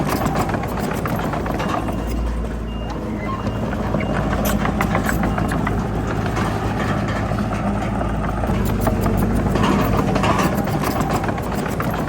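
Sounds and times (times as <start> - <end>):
metallic clanks and rattles: 0.0 - 2.8, 3.8 - 12.0
heavy diesel machinery running: 0.0 - 12.0.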